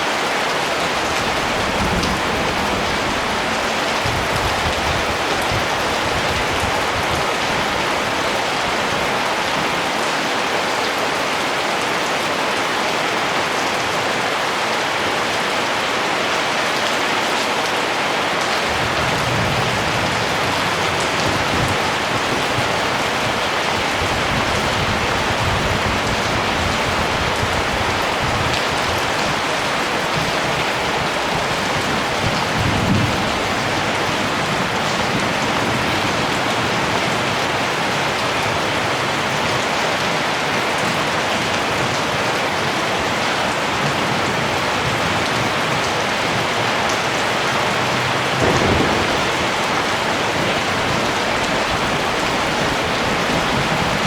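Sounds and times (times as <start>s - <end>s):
rain pattering on surfaces: 0.0s - 54.0s.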